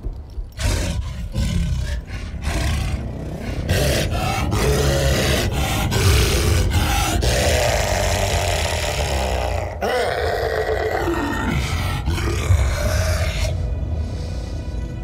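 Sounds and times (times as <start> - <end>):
creature growling roar: 0.6 - 13.7.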